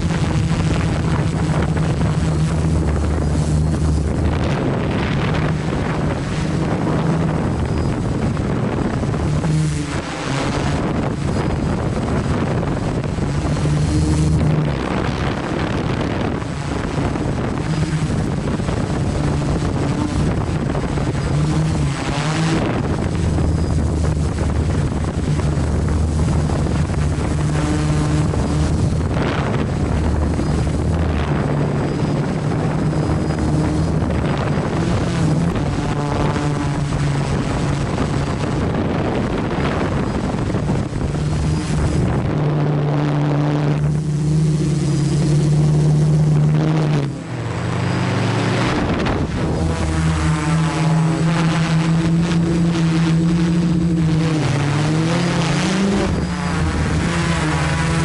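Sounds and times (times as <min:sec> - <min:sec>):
drone motors humming: 0:00.0 - 0:58.0
wind rushing past microphone: 0:00.0 - 0:58.0.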